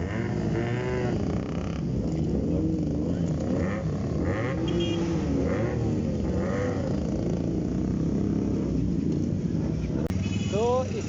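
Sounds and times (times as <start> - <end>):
motorcycle engine running: 0.0 - 11.0
traffic noise: 0.0 - 11.0.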